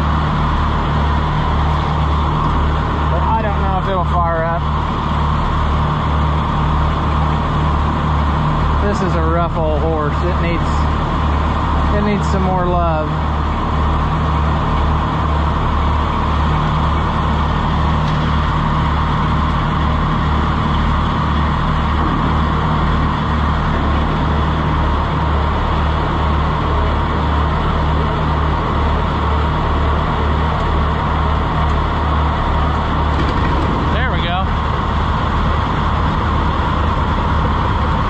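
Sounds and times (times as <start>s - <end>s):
tractor engine running rough: 0.0s - 38.0s.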